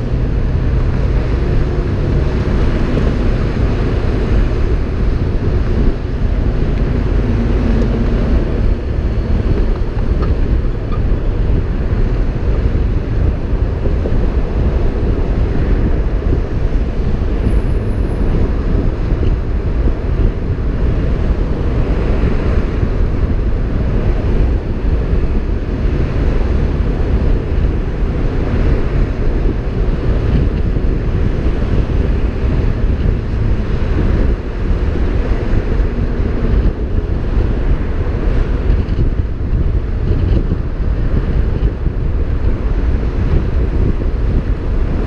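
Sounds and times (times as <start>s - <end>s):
tyres and road noise: 0.0s - 45.0s
wind buffeting microphone: 0.0s - 45.0s.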